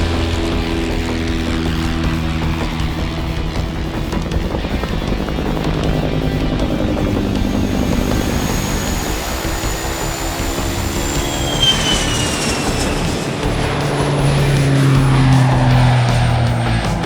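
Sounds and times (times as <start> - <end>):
falling turbine whine: 0.0 - 17.0
jet engines rumbling: 0.0 - 17.0.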